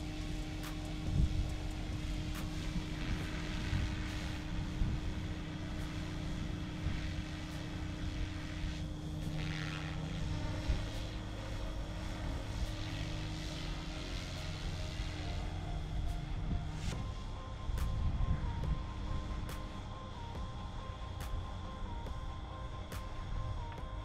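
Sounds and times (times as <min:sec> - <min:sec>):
rc helicopter rotor drone: 0:00.0 - 0:24.0.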